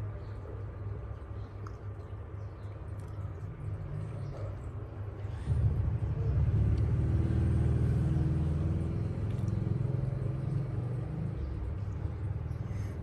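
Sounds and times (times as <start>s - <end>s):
motor running with low rumble: 0.0s - 13.0s.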